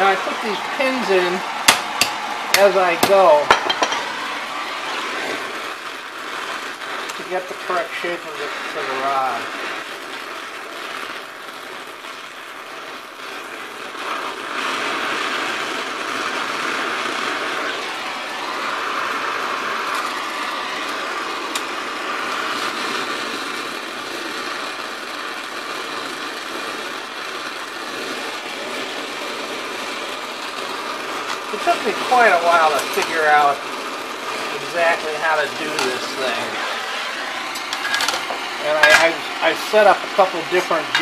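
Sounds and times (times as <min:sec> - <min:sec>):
torch flame hissing: 0:00.0 - 0:41.0.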